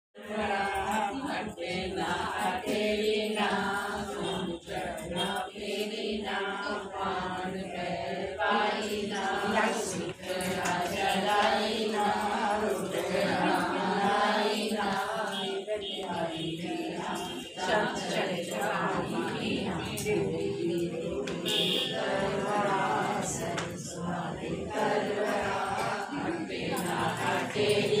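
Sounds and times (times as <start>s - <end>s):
women singing devotional song: 0.2s - 28.0s.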